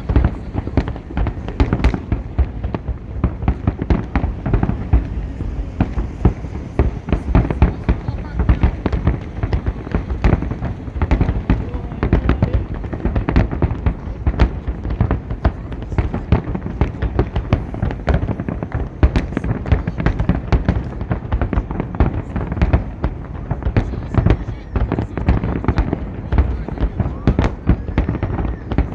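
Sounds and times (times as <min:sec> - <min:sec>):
fireworks booms and cracks: 0:00.0 - 0:28.9.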